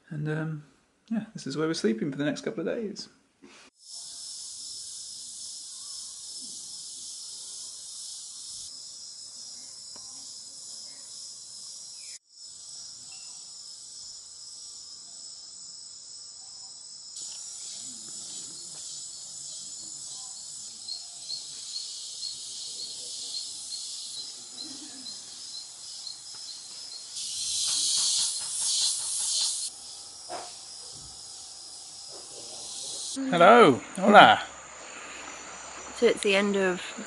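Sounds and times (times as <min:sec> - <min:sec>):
insect chorus drone: 0:03.8 - 0:37.0.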